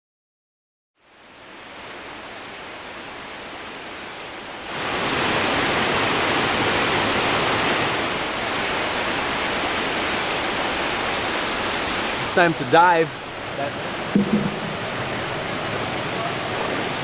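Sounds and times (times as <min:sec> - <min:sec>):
waterfall roaring: 0:01.4 - 0:17.0.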